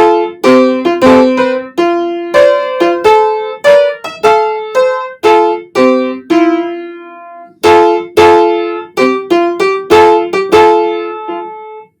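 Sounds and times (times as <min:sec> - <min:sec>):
piano melody: 0:00.0 - 0:12.0.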